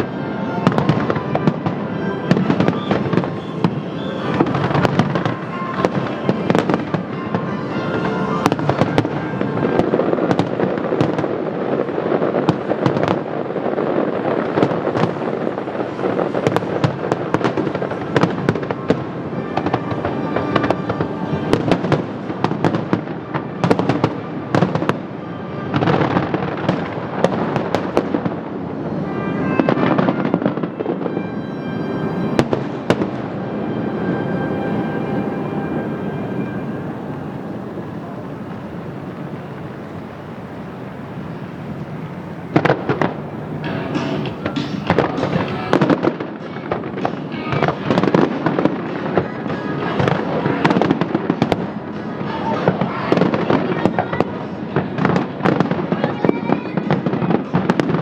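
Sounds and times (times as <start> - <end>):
music playing: 0.0 - 12.3, 13.9 - 57.7
fireworks bursting and crackling: 0.0 - 58.0.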